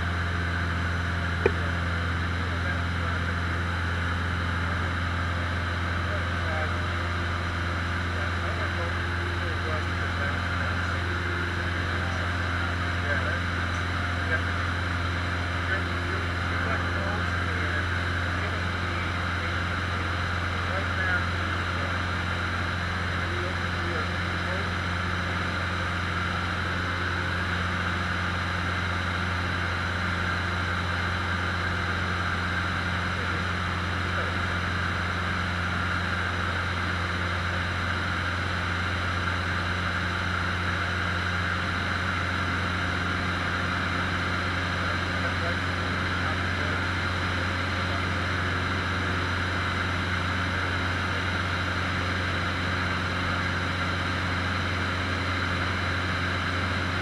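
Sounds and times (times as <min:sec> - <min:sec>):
aircraft engine humming in cabin: 0:00.0 - 0:57.0.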